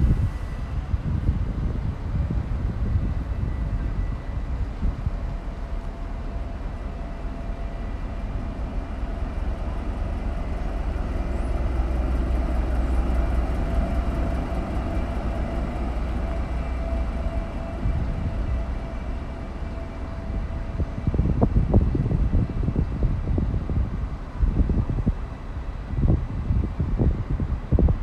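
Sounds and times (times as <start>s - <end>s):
locomotive whine: 0.0s - 27.9s
locomotive engine drone: 0.0s - 28.0s.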